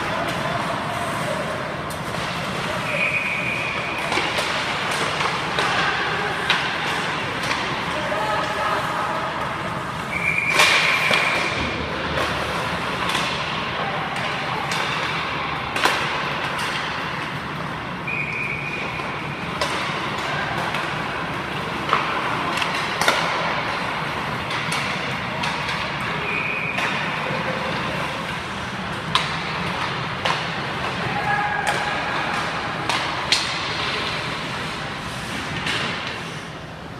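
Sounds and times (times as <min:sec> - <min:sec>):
pucks smacking boards: 0:00.0 - 0:08.6, 0:09.4 - 0:36.3
hockey sticks hitting pucks: 0:00.0 - 0:36.9.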